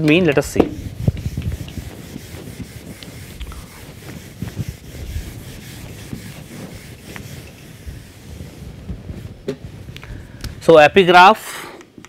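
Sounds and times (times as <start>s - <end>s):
eraser rubbing on whiteboard: 0.0s - 9.8s.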